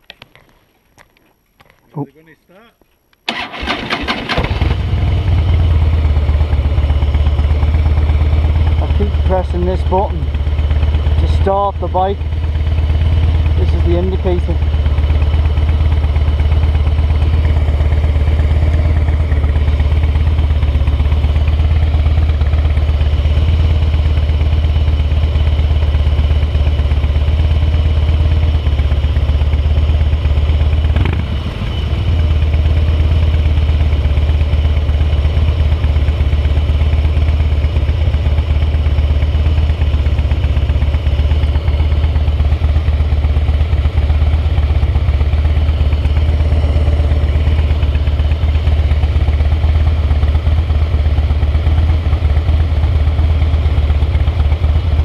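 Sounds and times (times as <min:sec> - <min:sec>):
motorcycle engine idling: 0:03.3 - 0:55.0.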